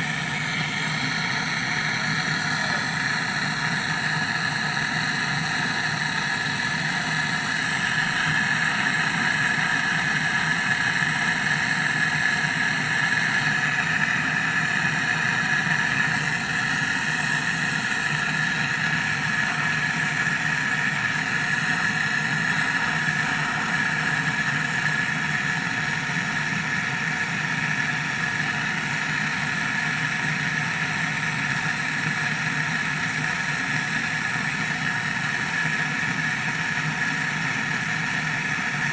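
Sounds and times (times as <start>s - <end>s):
mechanical hum and whir: 0.0s - 38.9s.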